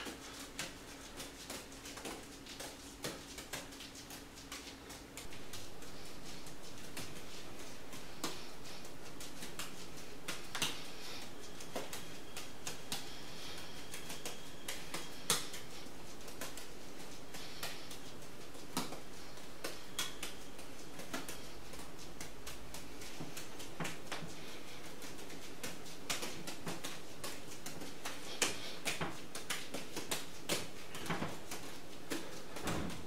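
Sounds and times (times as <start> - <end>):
juggling balls slapping into hands: 0.0 - 33.0
room noise hiss: 0.0 - 33.0.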